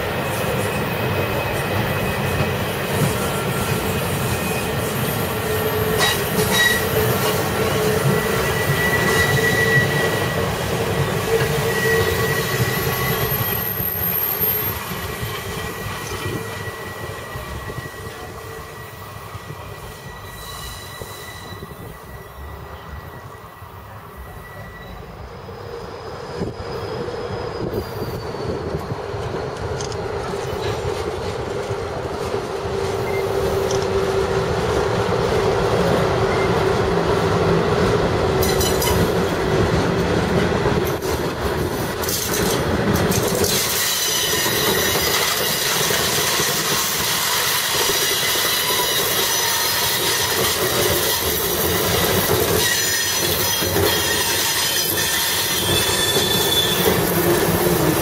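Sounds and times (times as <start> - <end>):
train wheels squealing: 0.0 - 30.9, 32.9 - 34.2, 36.2 - 36.7, 38.4 - 39.3, 40.8 - 58.0.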